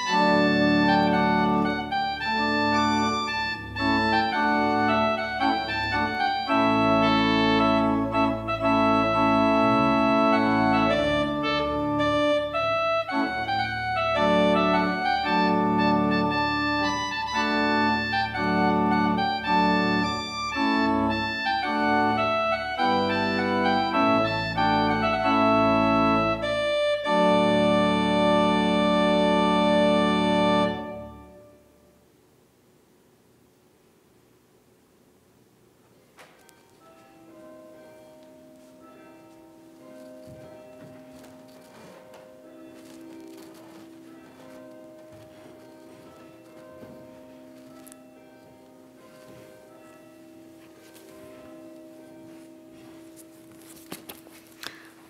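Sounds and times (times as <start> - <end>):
organ playing sustained chords: 0.0 - 32.3, 36.3 - 55.0.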